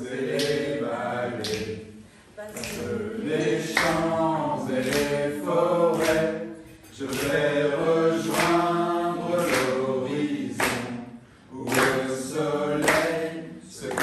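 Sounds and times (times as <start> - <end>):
group singing a cappella: 0.0 - 14.0.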